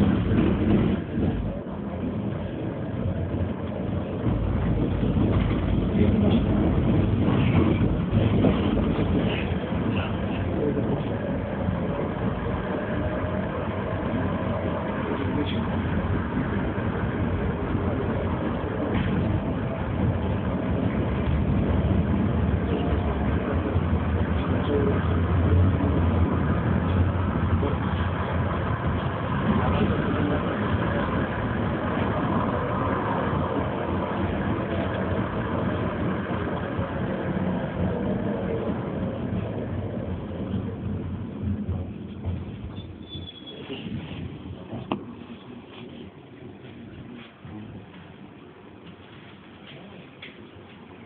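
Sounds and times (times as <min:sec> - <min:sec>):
tram wheels and motor rumbling: 0:00.0 - 0:51.0.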